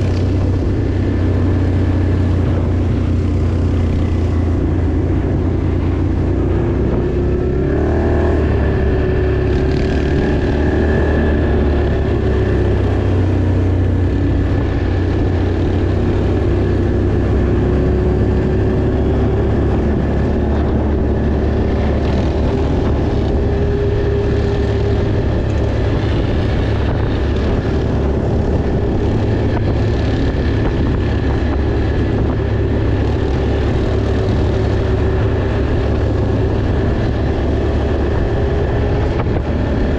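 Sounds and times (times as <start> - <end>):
off-road vehicle engine droning: 0.0 - 39.9.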